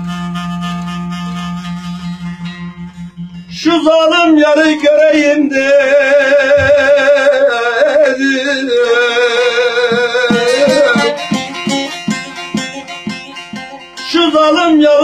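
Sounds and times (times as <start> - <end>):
plucked string notes: 0.0 - 7.2, 8.7 - 15.0
wavering folk melody: 0.0 - 15.0.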